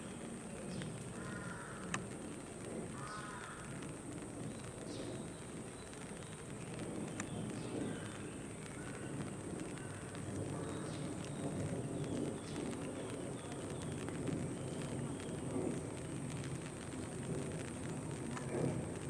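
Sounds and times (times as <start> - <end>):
low background rumble and hiss: 0.0 - 19.0.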